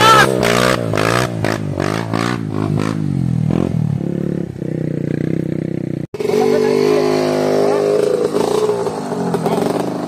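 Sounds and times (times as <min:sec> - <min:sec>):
motorcycle engine revving hard: 0:00.0 - 0:10.0.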